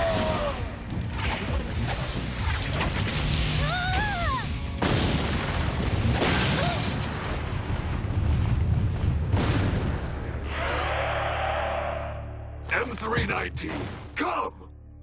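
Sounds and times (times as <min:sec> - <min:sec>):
background music: 0:00.0 - 0:08.1, 0:09.8 - 0:15.0.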